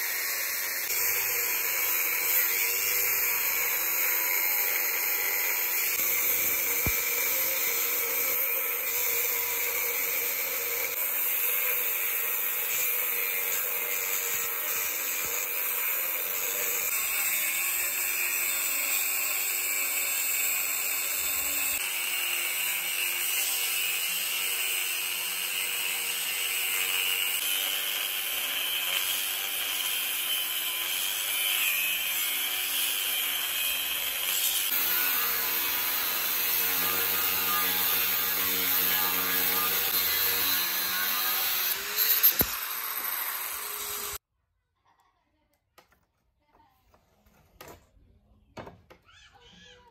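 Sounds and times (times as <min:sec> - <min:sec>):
angle grinder cutting steel: 0:00.0 - 0:44.2.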